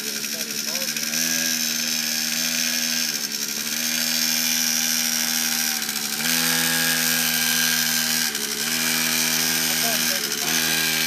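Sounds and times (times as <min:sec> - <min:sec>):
small dirt bike engine running: 0:00.0 - 0:11.0.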